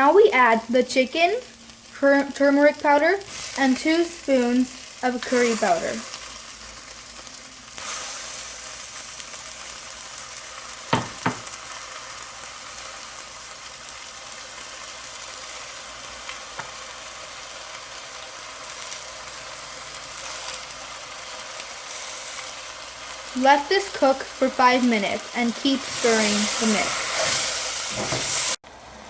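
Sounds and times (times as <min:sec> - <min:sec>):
chicken sizzling in a pot: 0:00.0 - 0:29.0.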